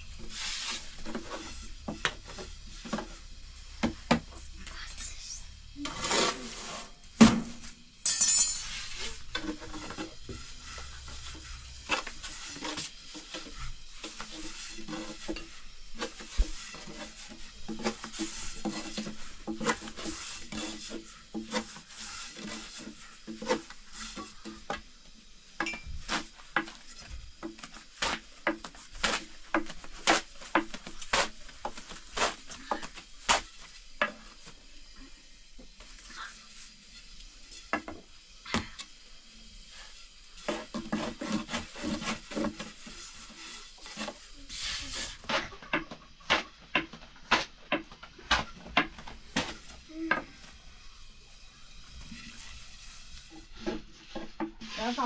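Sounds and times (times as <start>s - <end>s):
rolling pin rubbing on dough: 0.1s - 5.1s, 5.8s - 7.0s, 8.7s - 25.3s, 26.0s - 34.9s, 39.5s - 50.6s, 51.4s - 55.0s.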